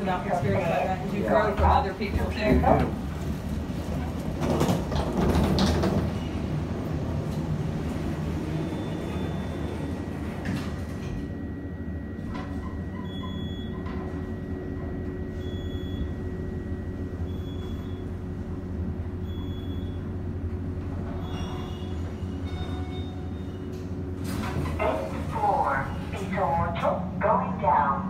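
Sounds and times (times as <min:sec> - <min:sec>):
elevator rumble and hum: 0:00.0 - 0:28.0.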